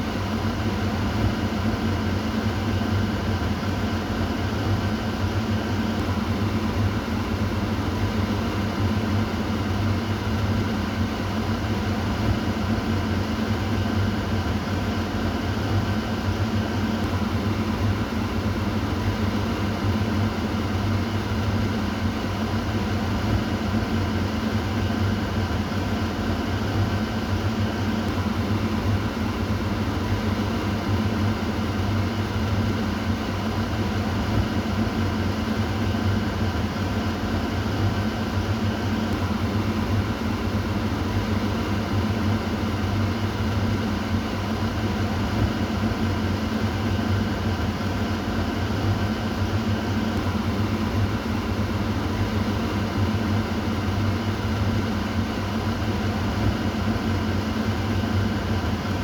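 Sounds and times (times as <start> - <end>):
exhaust fan motor hum: 0.0 - 59.0.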